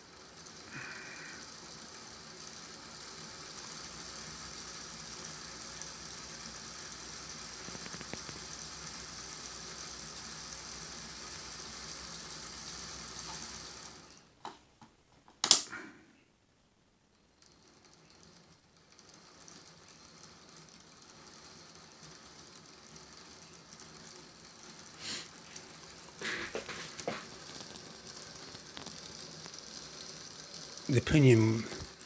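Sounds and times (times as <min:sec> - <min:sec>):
model locomotive motor whirring: 0:00.0 - 0:14.6, 0:17.1 - 0:32.0.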